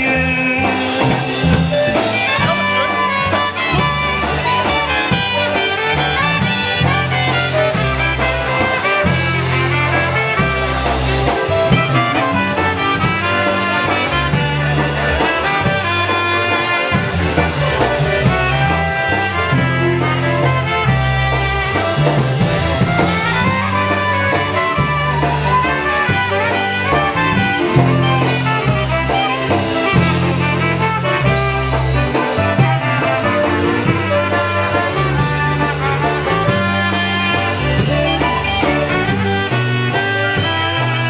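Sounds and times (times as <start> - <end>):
polka band playing: 0.0 - 41.0.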